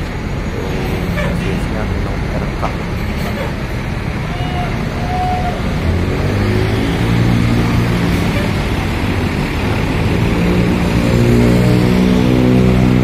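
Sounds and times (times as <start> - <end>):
bus diesel engine revving: 0.0 - 13.0.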